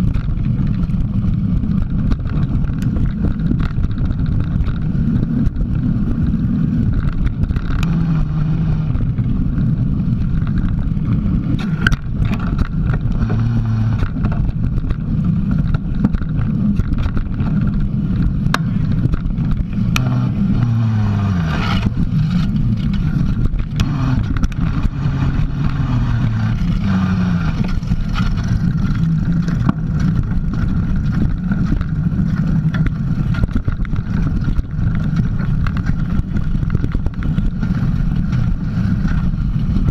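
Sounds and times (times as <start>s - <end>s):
bike tyres rumbling on dirt: 0.0s - 39.9s
knocks and rattles over bumps: 0.0s - 39.9s
low hum shifting pitch: 0.0s - 39.9s
wind buffeting: 0.0s - 39.9s.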